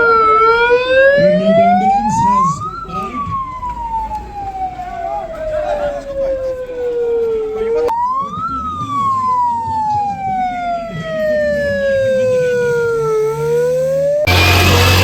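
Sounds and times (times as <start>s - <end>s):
ambulance siren wailing: 0.0s - 15.0s.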